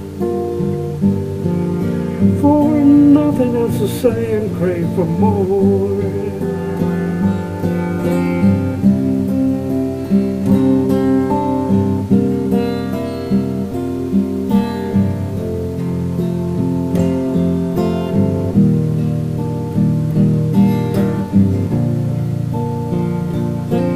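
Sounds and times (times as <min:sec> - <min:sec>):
acoustic guitar playing: 0:00.0 - 0:23.9.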